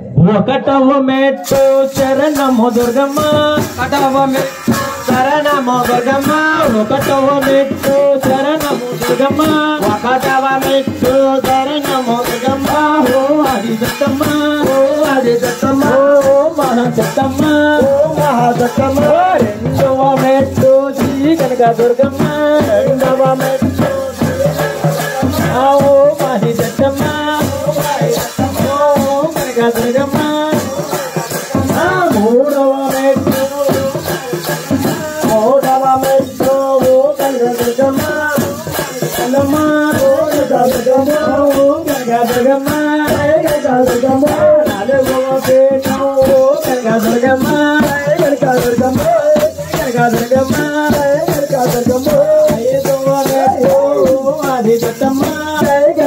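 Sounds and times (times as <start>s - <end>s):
shaker percussion rattling: 1.3s - 56.0s.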